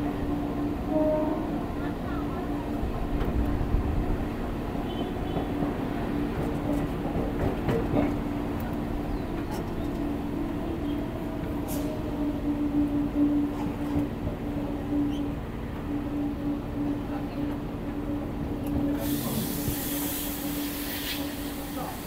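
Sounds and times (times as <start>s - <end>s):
train hum: 0.0s - 22.0s
train wheels rumbling on rails: 0.0s - 22.0s.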